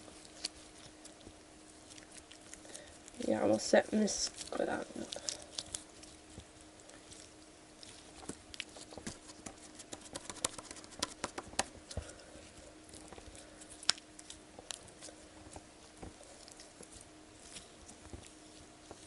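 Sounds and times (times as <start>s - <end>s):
slime being kneaded by hand: 0.0s - 19.0s.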